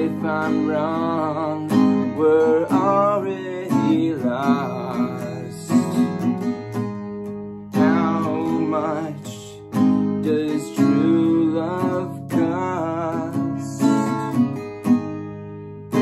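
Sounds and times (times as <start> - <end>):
man singing: 0.0 - 6.4, 7.7 - 14.6
acoustic guitar strummed: 0.0 - 16.0.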